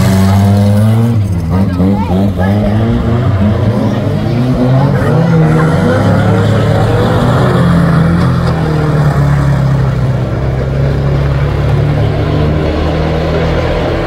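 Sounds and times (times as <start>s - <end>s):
racing car engines running: 0.0s - 14.0s.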